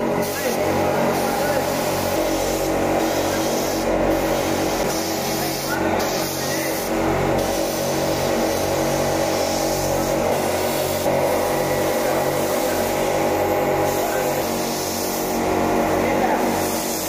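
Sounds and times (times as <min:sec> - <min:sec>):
paint spray gun hissing: 0:00.0 - 0:17.0
spray gun motor hum: 0:00.0 - 0:17.0.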